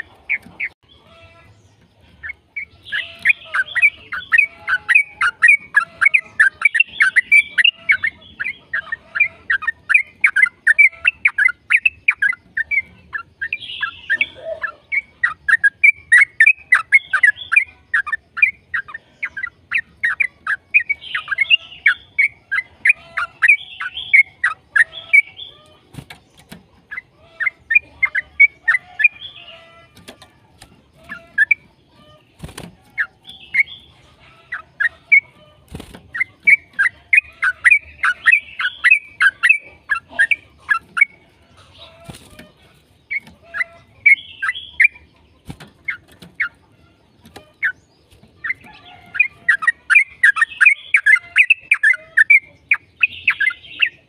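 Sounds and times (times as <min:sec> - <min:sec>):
bulbul chattering song: 0:00.0 - 0:54.0.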